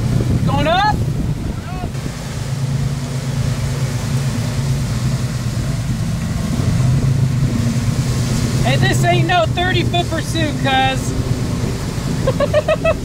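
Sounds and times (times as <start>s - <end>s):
boat engines humming: 0.0s - 13.0s
water noise: 0.0s - 13.0s
wind: 0.0s - 13.0s.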